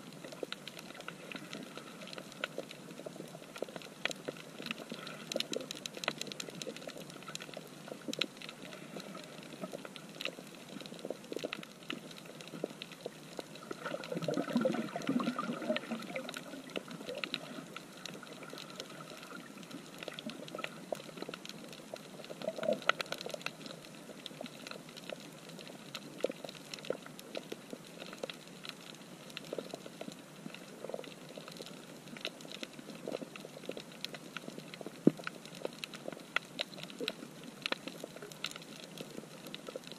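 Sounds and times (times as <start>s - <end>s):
steady underwater hiss: 0.0s - 39.9s.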